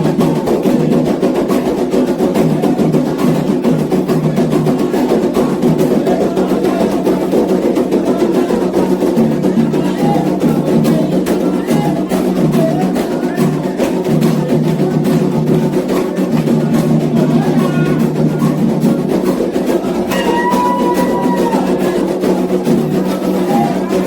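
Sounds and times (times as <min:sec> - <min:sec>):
chorus singing: 0:00.0 - 0:24.0
hand drums beating: 0:00.0 - 0:24.0.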